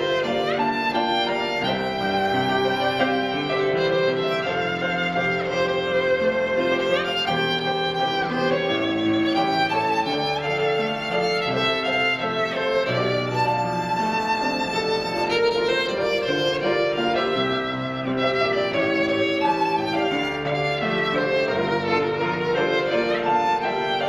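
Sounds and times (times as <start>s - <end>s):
piano accompaniment: 0.0s - 24.0s
violin melody: 0.0s - 24.0s.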